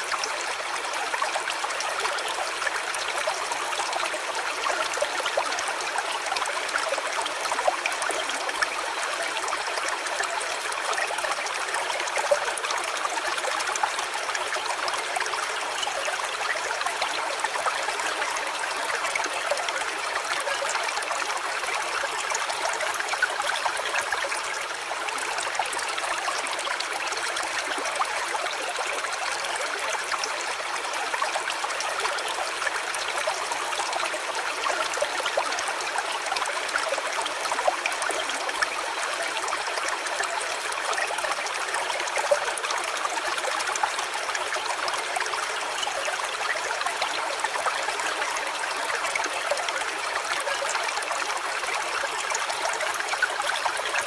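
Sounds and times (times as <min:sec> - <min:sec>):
stream trickling and burbling: 0:00.0 - 0:54.0.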